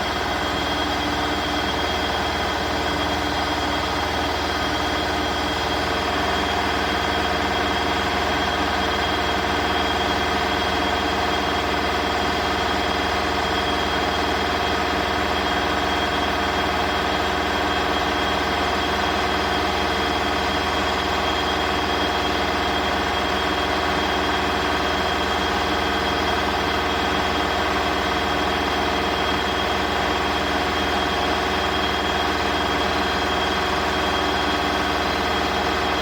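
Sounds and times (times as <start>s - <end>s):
washing machine spinning: 0.0s - 36.0s.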